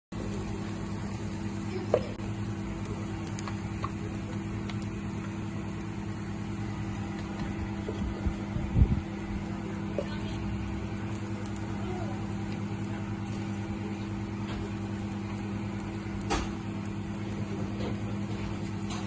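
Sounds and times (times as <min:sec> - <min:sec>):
machine hum: 0:00.1 - 0:19.0.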